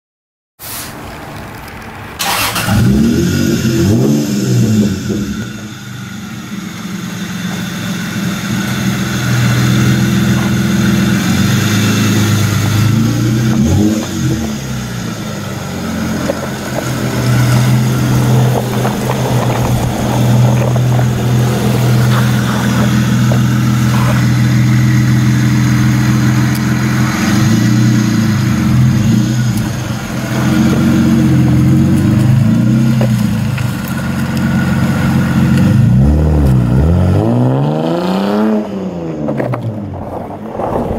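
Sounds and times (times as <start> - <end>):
loud car engine running: 2.2 - 40.9.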